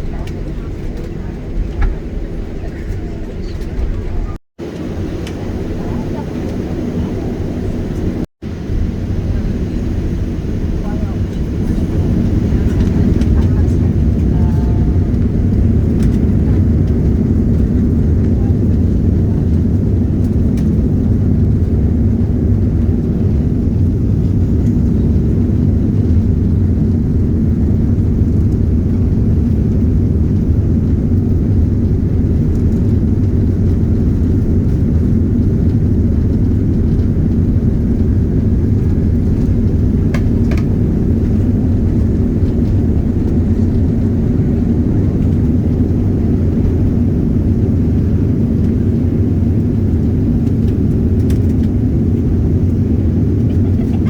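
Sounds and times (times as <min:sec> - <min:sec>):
jet engines deep rumble: 0:00.0 - 0:54.0.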